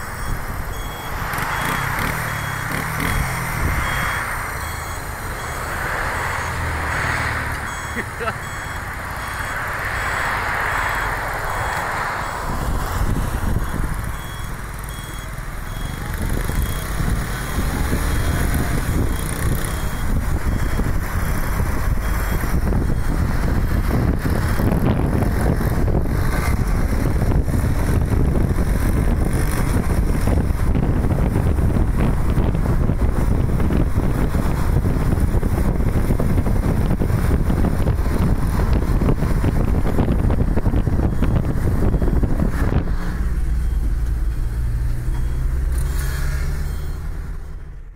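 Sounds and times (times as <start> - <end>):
engine and tyre rumble: 0.0 - 47.9
wind: 0.0 - 47.9.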